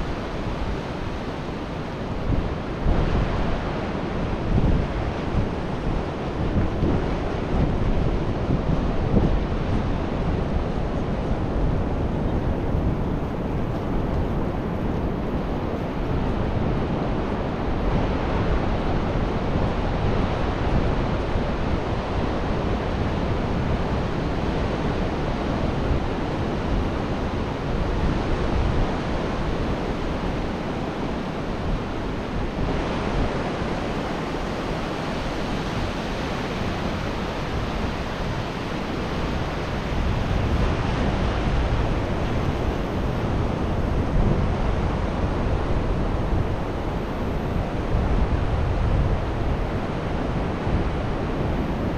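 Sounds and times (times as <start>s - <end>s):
ocean surf on beach: 0.0s - 51.9s
wind rumbling on microphone: 0.0s - 51.9s.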